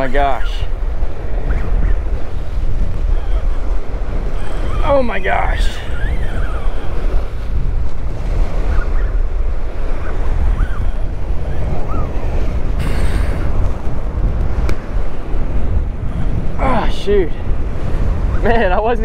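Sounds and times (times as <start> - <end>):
surf washing against rocks: 0.0 - 19.0
wind buffeting microphone: 0.0 - 19.0.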